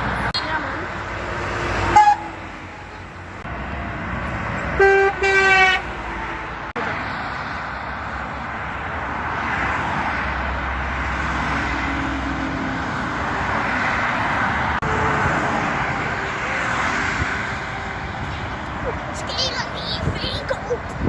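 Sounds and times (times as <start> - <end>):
vehicles driving past: 0.0 - 21.0.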